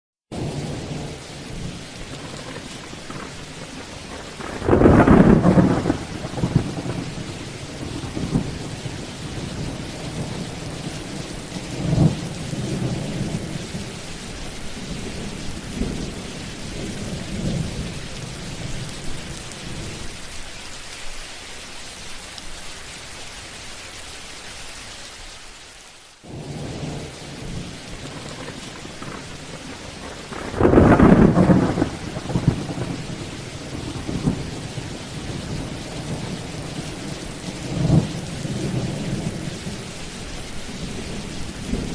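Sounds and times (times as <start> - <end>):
thunder clap and rumbles: 0.3 - 14.0, 14.8 - 20.0, 26.3 - 39.9, 40.7 - 41.9
steady rain falling: 0.3 - 41.9.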